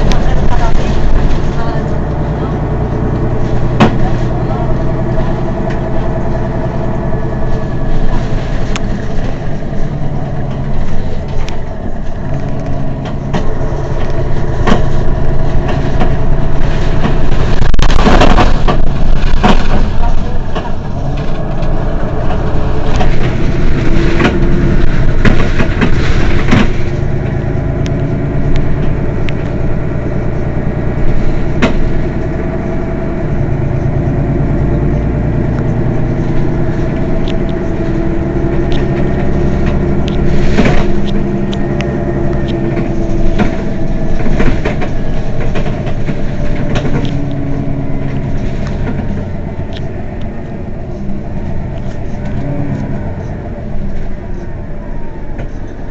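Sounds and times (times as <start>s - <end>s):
bus engine idling: 0.0s - 55.9s.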